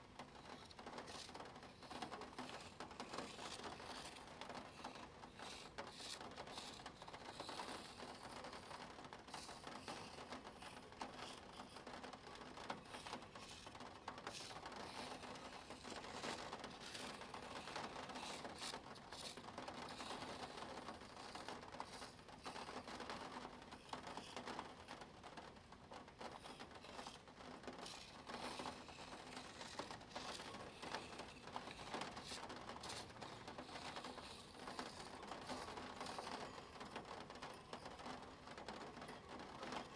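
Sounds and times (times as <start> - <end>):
pen scratching on paper: 0.5 - 23.2, 26.3 - 37.7.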